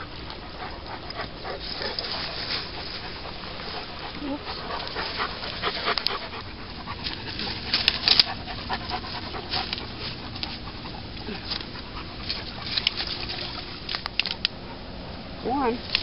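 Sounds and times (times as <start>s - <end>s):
dog panting: 0.1s - 14.0s.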